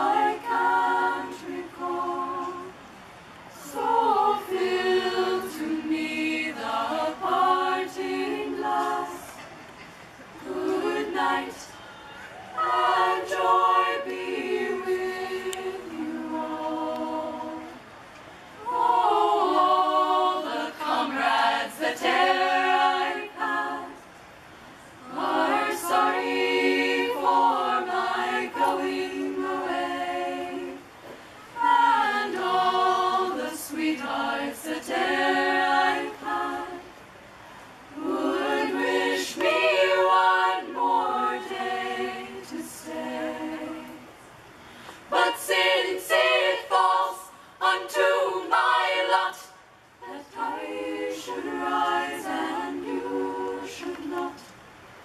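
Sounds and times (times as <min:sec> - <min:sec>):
women singing a cappella: 0:00.0 - 0:09.7, 0:10.3 - 0:55.0.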